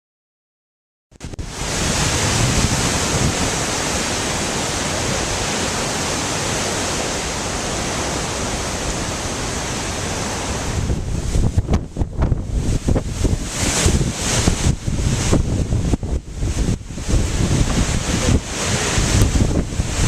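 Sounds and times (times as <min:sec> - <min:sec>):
storm wind rushing: 0:01.2 - 0:20.0
wind buffeting microphone: 0:01.2 - 0:20.0.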